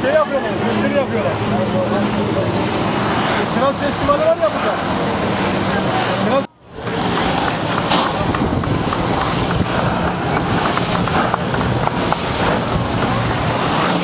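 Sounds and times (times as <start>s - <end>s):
jet ski engine running: 0.0s - 14.0s
water spray: 0.0s - 14.0s
wind buffeting microphone: 0.0s - 14.0s.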